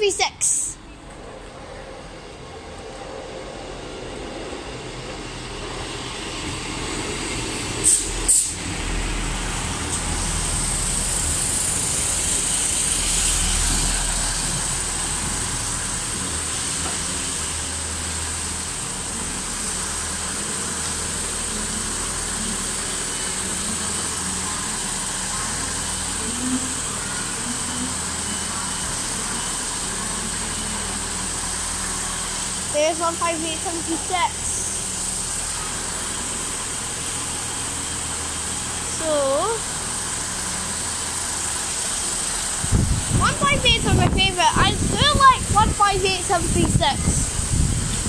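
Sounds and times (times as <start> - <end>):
train diesel engines running: 0.0 - 48.0
train wheels on rails: 0.0 - 48.0.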